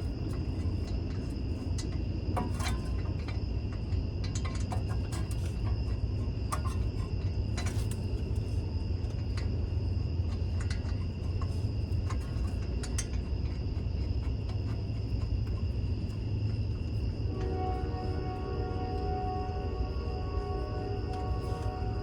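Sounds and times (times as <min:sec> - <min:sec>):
crickets trilling: 0:00.0 - 0:22.0
steady low rumble: 0:00.0 - 0:22.0.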